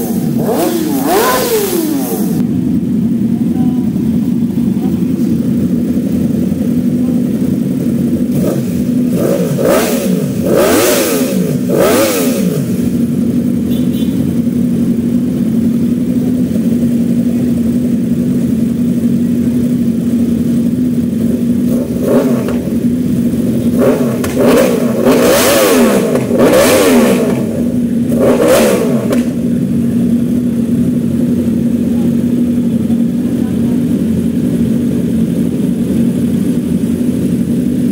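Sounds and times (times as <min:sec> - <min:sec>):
motorcycle engines idling: 0:00.0 - 0:37.9
motorcycle throttle revving: 0:00.0 - 0:37.9.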